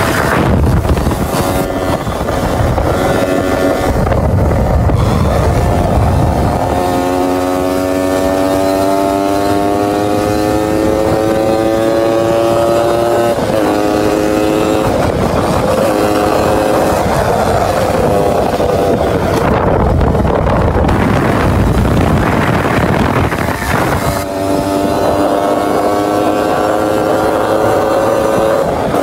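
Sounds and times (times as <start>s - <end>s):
small petrol engine whining: 0.0s - 29.0s.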